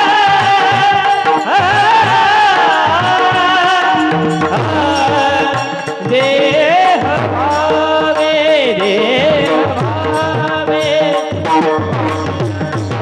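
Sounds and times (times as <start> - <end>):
held accompaniment tones: 0.0 - 13.0
percussion strokes: 0.0 - 13.0
solo voice singing devotional song: 0.0 - 13.0.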